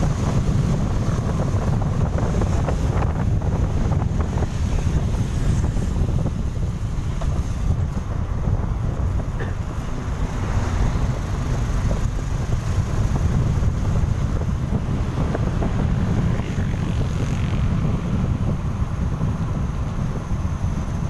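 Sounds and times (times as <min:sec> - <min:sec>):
motorcycle and road noise: 0:00.0 - 0:21.0
wind buffeting microphone: 0:00.0 - 0:21.0.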